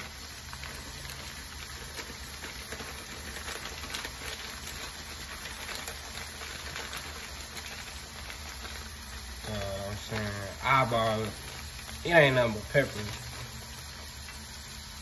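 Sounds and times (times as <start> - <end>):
beef sizzling in a pot: 0.0 - 15.0
faint crackles: 0.0 - 15.0.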